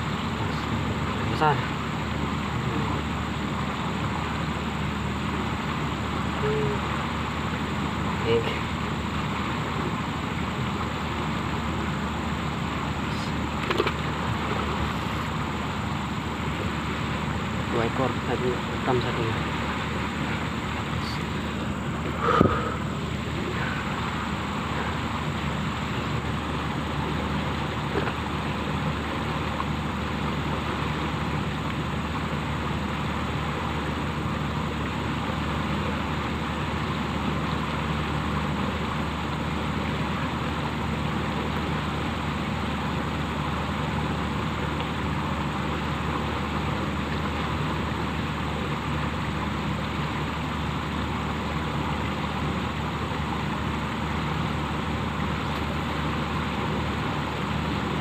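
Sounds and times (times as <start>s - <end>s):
steady engine drone: 0.0s - 58.0s.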